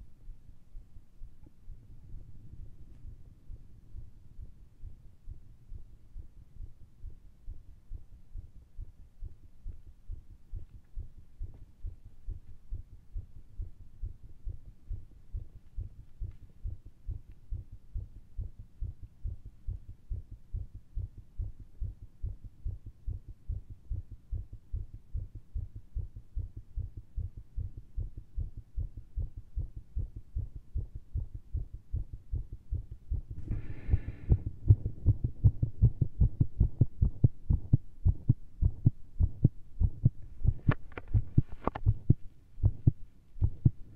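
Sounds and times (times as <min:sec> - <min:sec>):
fast heartbeat through stethoscope: 0:01.2 - 0:43.9.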